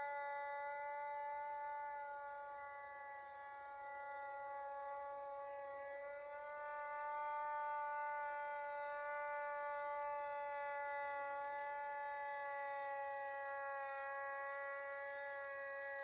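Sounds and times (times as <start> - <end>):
hand-crank siren wailing: 0.0 - 16.0.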